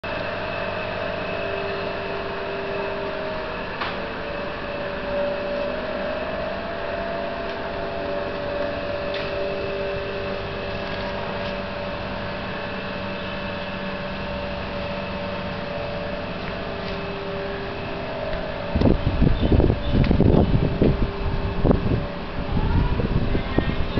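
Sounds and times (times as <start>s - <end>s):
mechanical hum: 0.0s - 23.9s.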